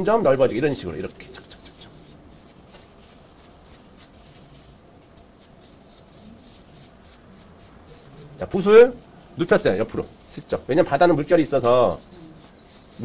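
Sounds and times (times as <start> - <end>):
paintbrush dabbing strokes: 0.6 - 13.0.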